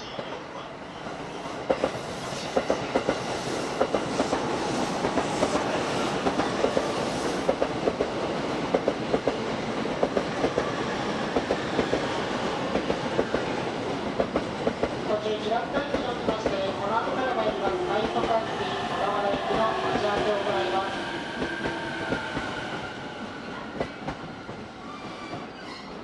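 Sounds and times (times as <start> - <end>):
train rolling noise: 1.0 - 26.0.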